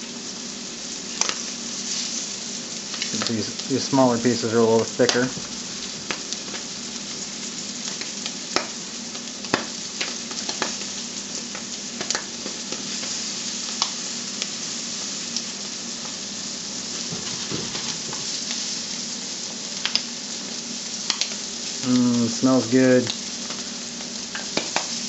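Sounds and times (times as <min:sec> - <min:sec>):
meat sizzling in a skillet: 0:00.0 - 0:25.0.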